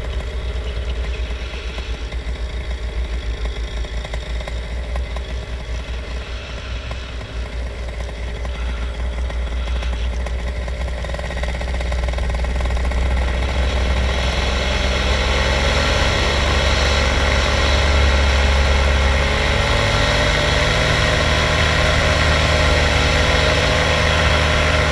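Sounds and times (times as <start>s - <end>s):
small aircraft engine: 0.0s - 24.9s.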